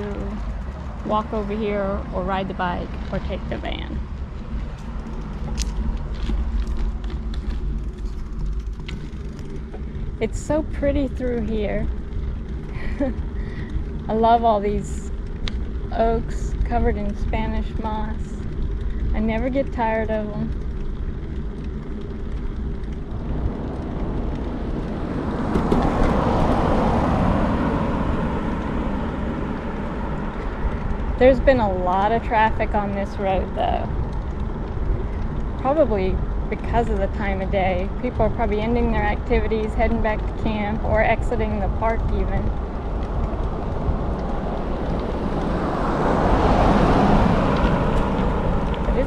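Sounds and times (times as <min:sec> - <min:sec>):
car passing: 0:00.0 - 0:49.0
wind rumbling on microphone: 0:00.0 - 0:49.0.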